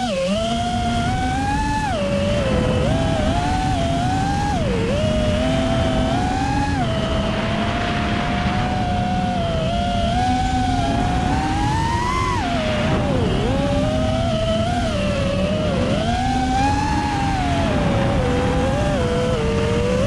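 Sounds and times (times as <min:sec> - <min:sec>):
drone motors buzzing: 0:00.0 - 0:20.0
low rushing noise: 0:00.8 - 0:20.0.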